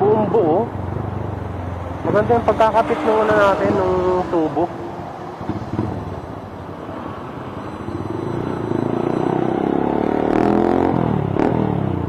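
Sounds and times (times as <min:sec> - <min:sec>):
motorcycle accelerating: 0:00.4 - 0:12.0.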